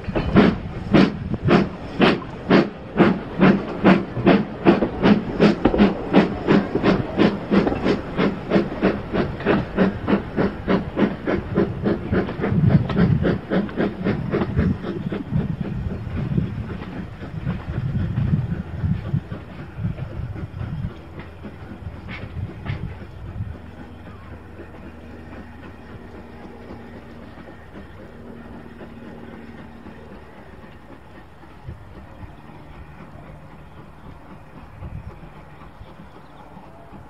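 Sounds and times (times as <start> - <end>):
steam locomotive rumble: 0.0 - 37.0.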